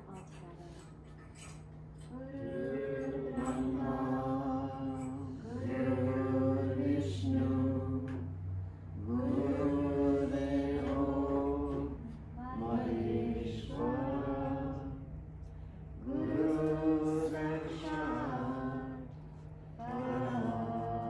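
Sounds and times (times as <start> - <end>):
group chanting a prayer in unison: 2.1 - 15.2, 16.0 - 21.0.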